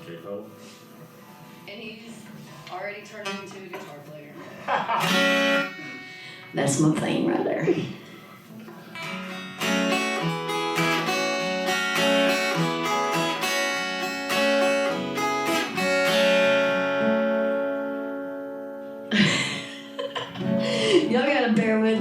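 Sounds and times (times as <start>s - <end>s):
acoustic guitar plucking and strumming: 0.0s - 22.0s.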